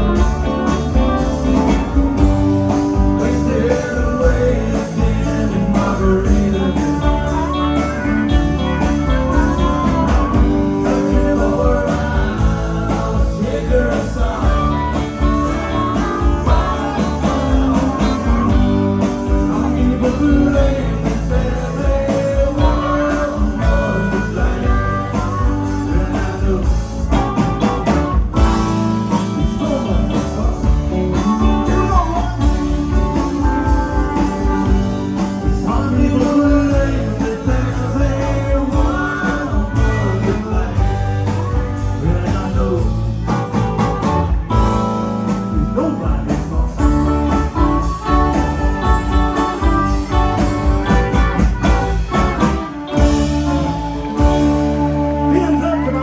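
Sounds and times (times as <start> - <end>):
live country-rock band: 0.0 - 56.0.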